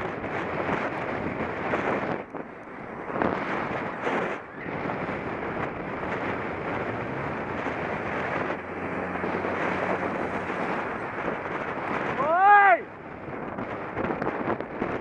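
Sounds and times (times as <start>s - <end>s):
low engine hum: 0.0s - 15.0s
road noise: 0.0s - 15.0s
wind on microphone: 0.0s - 15.0s.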